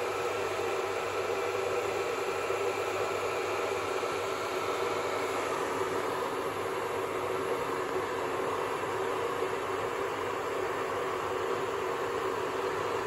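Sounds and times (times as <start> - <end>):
electric kettle heating water: 0.0 - 13.0.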